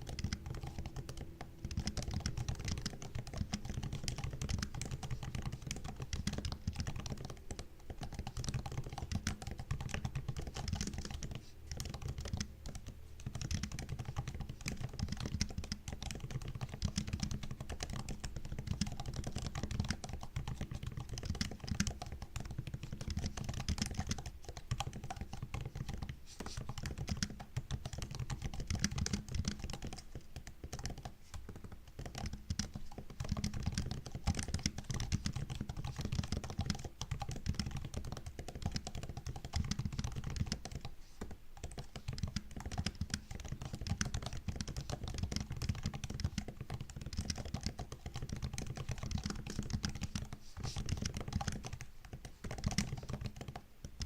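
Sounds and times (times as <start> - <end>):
laptop keyboard typing: 0.0 - 54.0.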